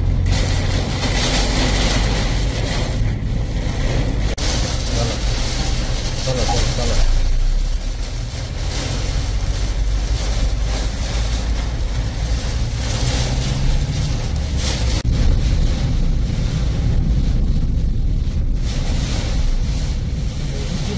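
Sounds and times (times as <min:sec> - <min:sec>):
heavy rain beating on car: 0:00.0 - 0:20.9
wind rumble on microphone: 0:00.0 - 0:20.9.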